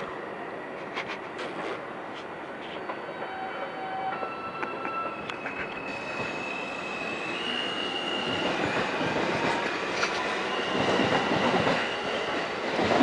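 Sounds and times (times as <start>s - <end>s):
high whine of train: 0.0s - 13.0s
train wheels rumbling on rail: 0.0s - 13.0s.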